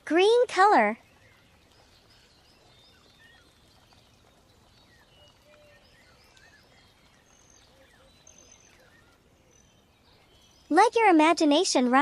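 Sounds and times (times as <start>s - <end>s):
birds whistling calls: 1.0s - 10.7s.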